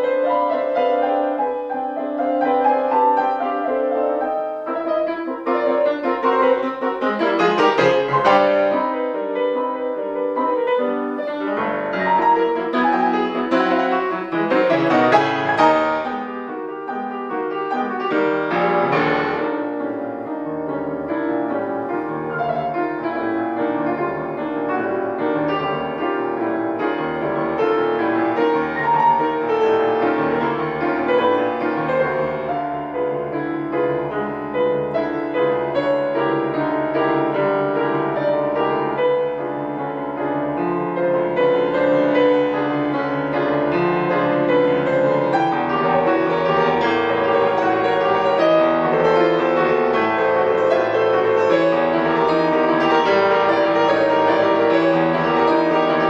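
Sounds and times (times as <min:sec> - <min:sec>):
grand piano playing classical piece: 0:00.0 - 0:56.0.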